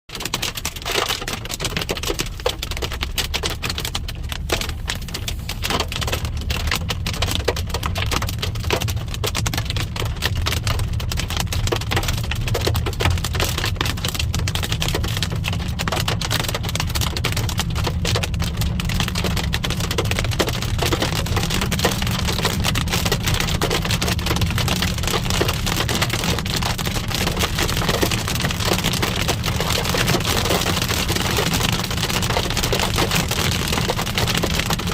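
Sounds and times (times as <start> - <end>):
car rumbling on road: 0.1 - 34.9
hail drumming on a car: 0.1 - 34.9.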